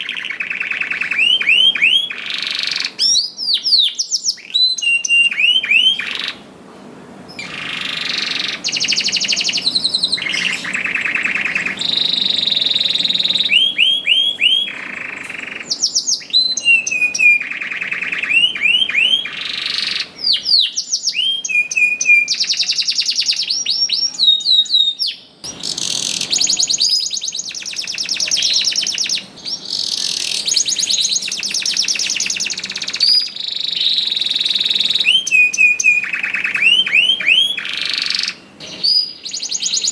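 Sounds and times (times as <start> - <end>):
canary singing: 0.0 - 6.5, 7.3 - 39.9.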